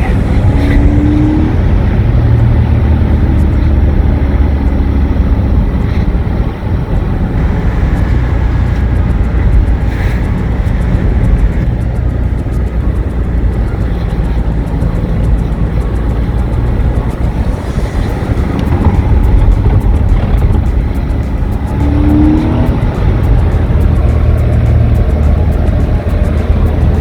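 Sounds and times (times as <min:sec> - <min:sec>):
car engine revving high: 0:00.0 - 0:27.0
road noise: 0:00.0 - 0:27.0.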